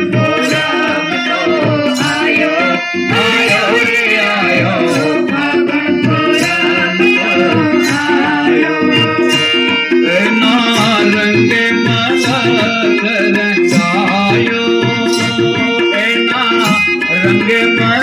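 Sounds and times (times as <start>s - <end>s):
hand drums: 0.0s - 18.0s
harmonium chords: 0.0s - 18.0s
people singing into microphones: 0.0s - 18.0s.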